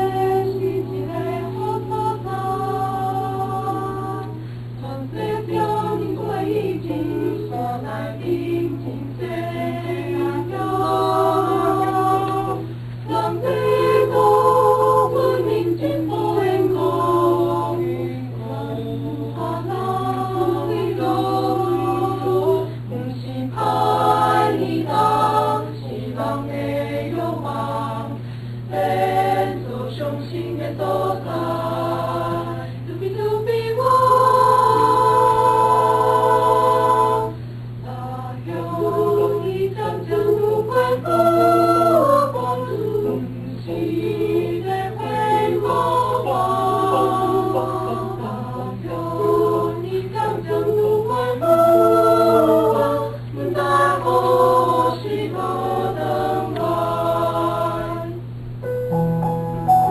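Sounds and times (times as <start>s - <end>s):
choir singing: 0.0s - 58.3s.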